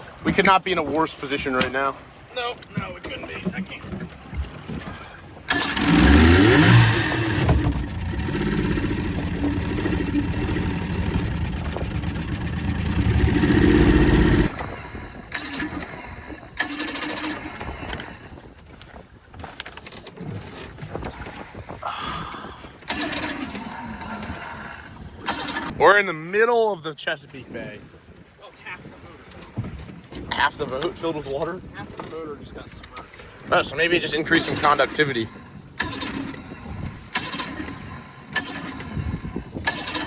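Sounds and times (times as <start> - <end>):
outboard motor starting and running: 0.0 - 26.1, 27.3 - 40.0
wind: 0.0 - 40.0.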